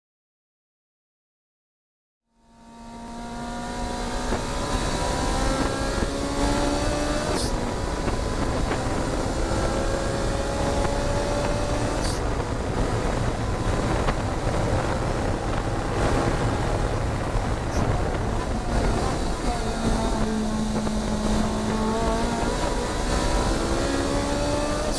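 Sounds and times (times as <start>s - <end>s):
wind and road noise: 2.3s - 24.9s
race car engine pulling under load: 2.7s - 24.9s.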